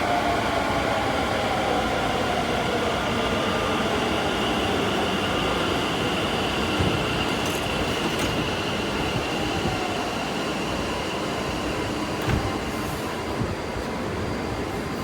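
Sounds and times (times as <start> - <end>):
train rumbling: 2.4 - 15.0.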